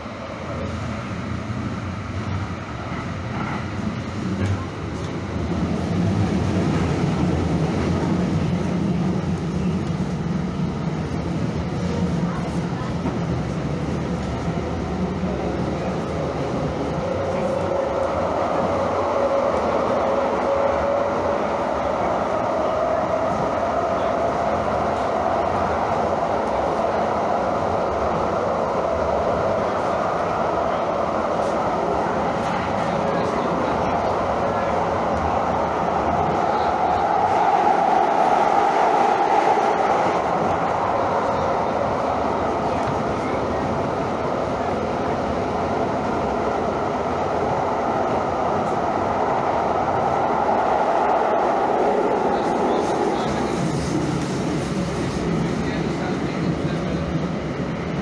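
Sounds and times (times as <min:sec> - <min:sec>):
light rail train rumbling: 0:00.0 - 0:58.0.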